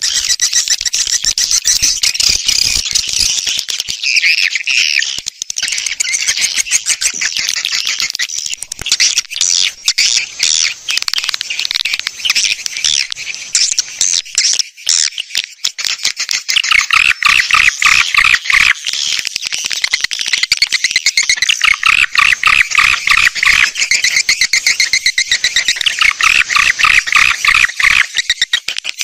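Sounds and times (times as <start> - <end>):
swiftlets chattering and chirping: 0.0 - 29.0.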